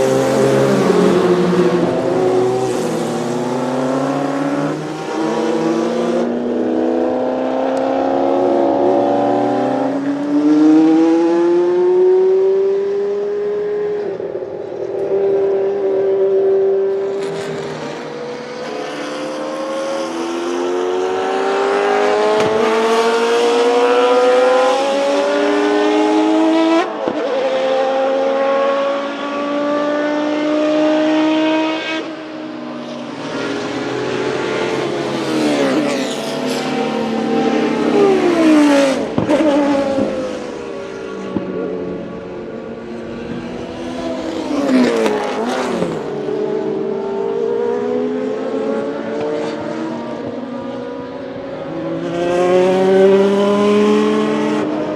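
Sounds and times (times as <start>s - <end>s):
race cars passing at speed: 0.0s - 54.9s.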